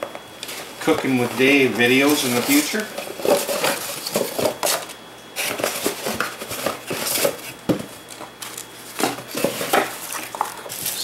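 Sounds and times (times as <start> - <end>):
cardboard and plastic packaging rustling: 0.0 - 11.0.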